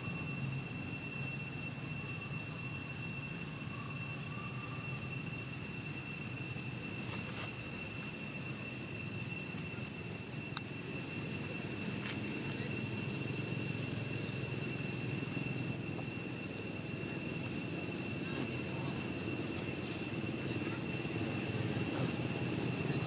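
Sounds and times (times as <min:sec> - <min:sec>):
constant high-pitched whine: 0:00.0 - 0:23.0.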